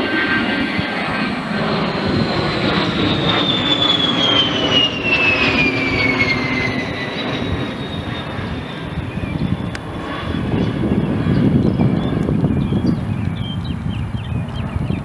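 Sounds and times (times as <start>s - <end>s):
jet passing overhead: 0.0s - 15.0s.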